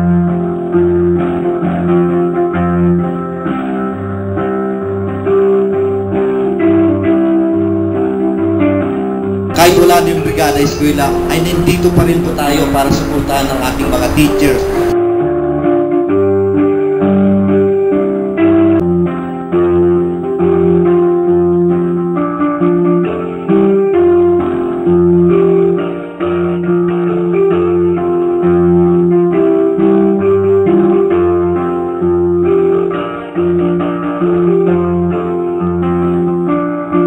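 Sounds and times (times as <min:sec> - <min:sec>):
plucked guitar music: 0:00.0 - 0:37.0.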